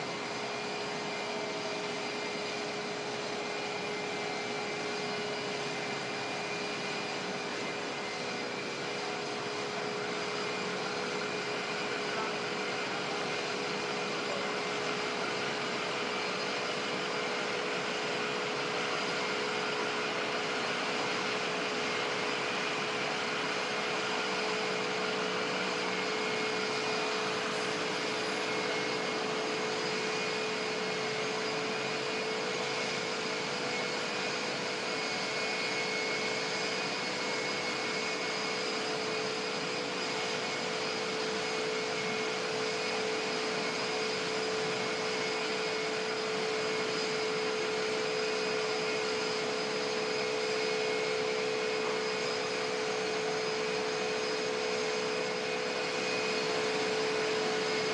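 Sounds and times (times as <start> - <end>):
jet engines idling: 0.0 - 57.9.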